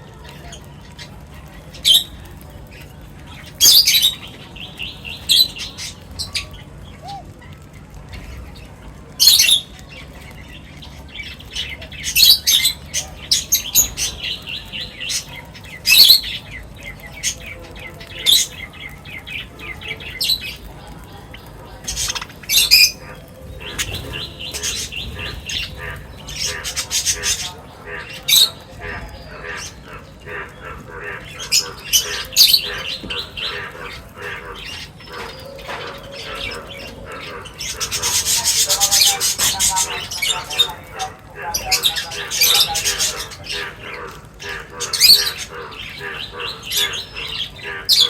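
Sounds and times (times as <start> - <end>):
birds chirping and calling: 0.0 - 48.0.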